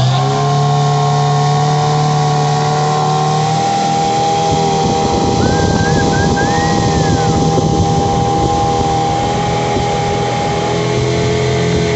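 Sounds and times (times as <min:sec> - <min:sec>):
outboard motor running: 0:00.0 - 0:11.9
rushing water and wind: 0:00.8 - 0:11.9.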